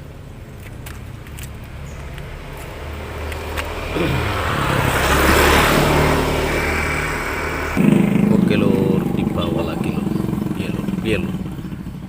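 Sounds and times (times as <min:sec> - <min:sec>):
vehicle engine passing by: 0:00.9 - 0:12.0.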